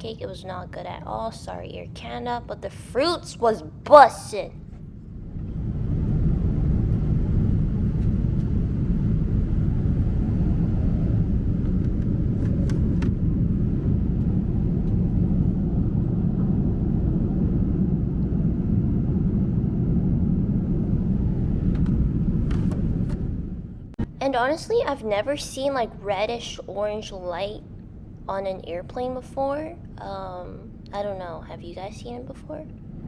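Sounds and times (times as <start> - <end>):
airliner cabin engine rumble: 0.0 - 33.0.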